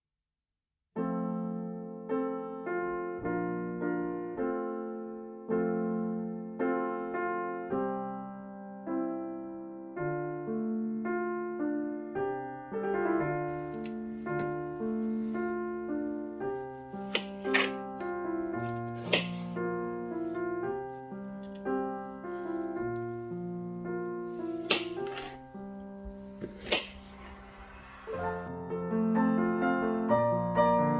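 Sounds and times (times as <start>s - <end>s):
gentle piano music: 1.0s - 30.9s.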